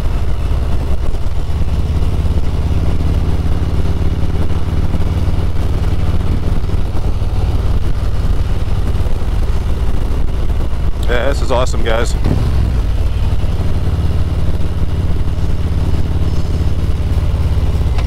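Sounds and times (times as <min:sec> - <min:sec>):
motorcycle engine cruising: 0:00.0 - 0:18.0
road and wind noise: 0:00.0 - 0:18.0.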